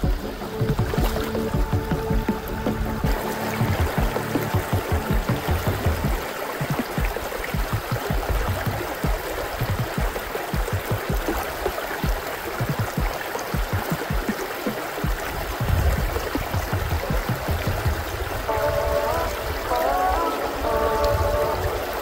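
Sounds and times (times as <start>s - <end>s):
background music: 0.0s - 22.0s
stream water splashing over stones: 0.0s - 22.0s.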